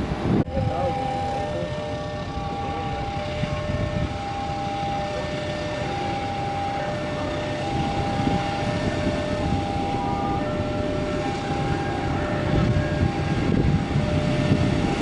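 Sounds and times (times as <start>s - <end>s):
passenger train rumbling: 0.0s - 15.0s
two alternating warning tones: 0.5s - 15.0s.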